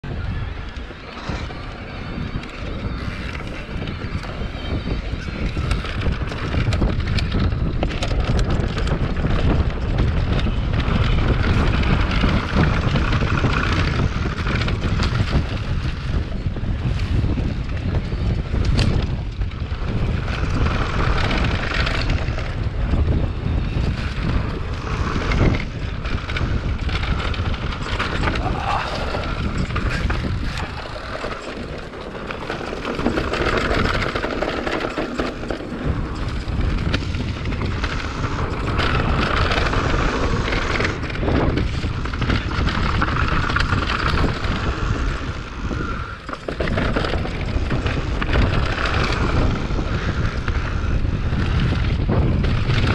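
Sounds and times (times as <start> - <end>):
bike rattling over bumps: 0.0 - 52.9
wind rushing over microphone: 0.0 - 52.9
tyres rolling on dirt: 0.1 - 52.9.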